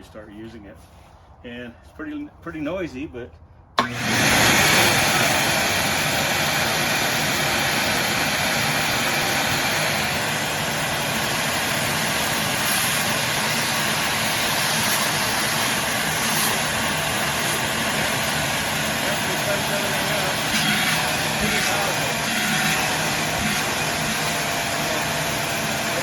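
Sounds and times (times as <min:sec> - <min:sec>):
shop vacuum running: 0:03.8 - 0:26.0.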